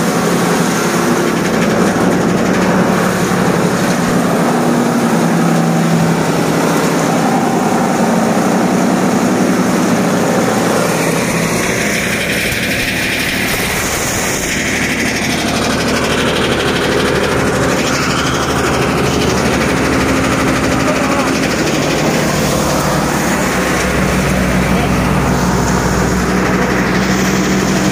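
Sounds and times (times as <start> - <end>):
cutting machine chopping branches: 0.0 - 27.9.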